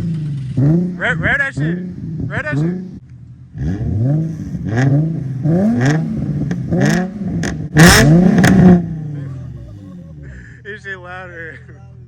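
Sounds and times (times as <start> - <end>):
exhaust cracks: 0.0 - 10.4
car engine revving: 0.0 - 10.6.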